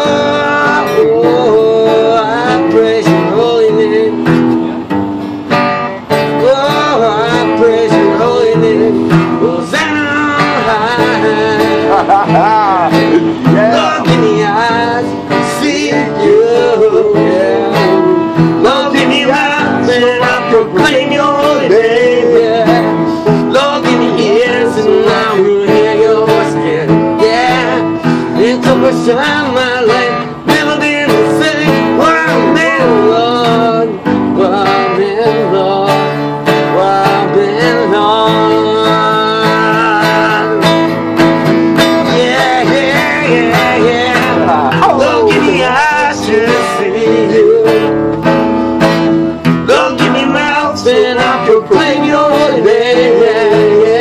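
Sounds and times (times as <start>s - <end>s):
guitar playing: 0.0s - 54.0s
person singing: 6.4s - 41.0s, 41.8s - 48.0s, 49.6s - 54.0s.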